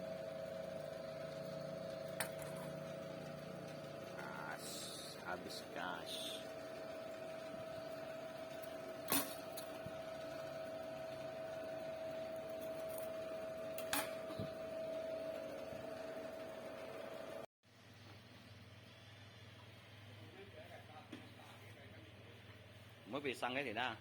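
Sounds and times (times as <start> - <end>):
machine hum with whining tone: 0.0 - 24.0.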